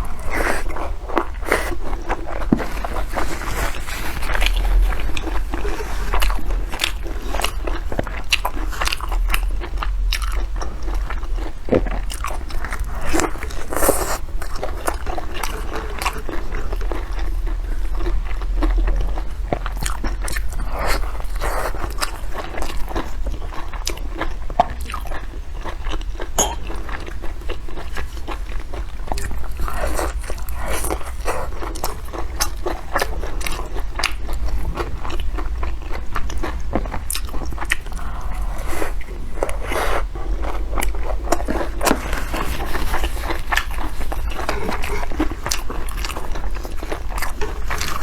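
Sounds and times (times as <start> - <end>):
chewing crunchy food: 0.0 - 48.0.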